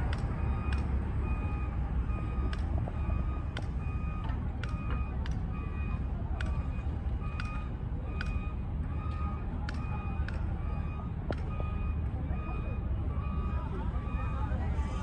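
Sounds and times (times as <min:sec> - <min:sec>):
low engine rumble: 0:00.0 - 0:15.0
reversing alarm beeps: 0:00.1 - 0:15.0.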